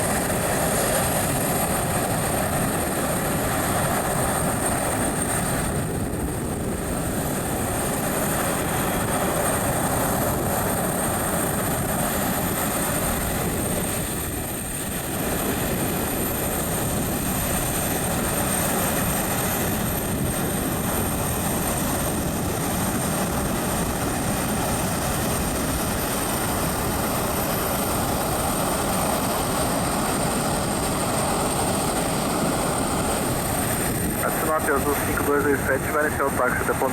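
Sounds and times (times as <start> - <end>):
jet engines running: 0.0 - 36.9.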